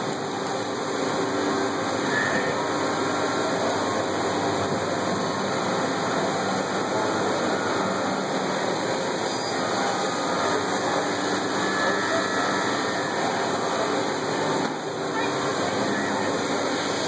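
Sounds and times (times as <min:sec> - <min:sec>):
machine humming and hissing: 0:00.0 - 0:17.0.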